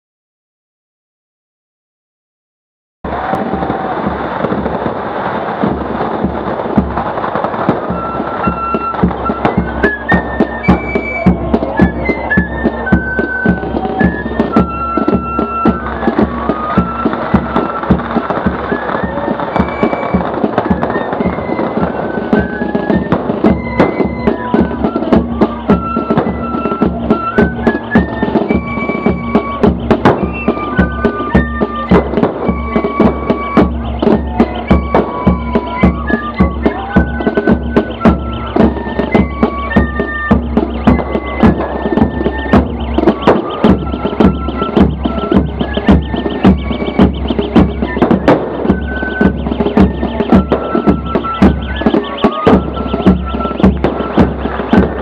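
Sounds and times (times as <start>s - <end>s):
drums beating: 3.0s - 55.0s
fifes playing march melody: 3.6s - 55.0s.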